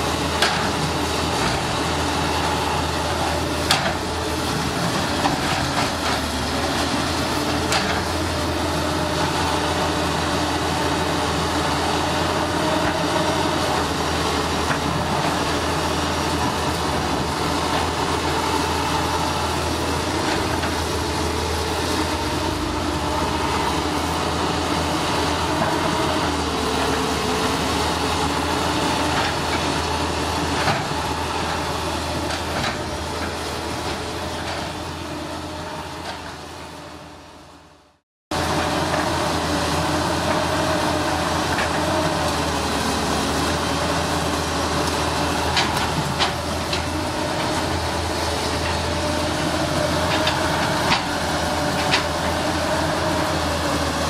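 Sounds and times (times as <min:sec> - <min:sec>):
metal tracks and buckets clanking: 0:00.0 - 0:36.8, 0:38.3 - 0:54.0
diesel engines droning: 0:00.0 - 0:54.0.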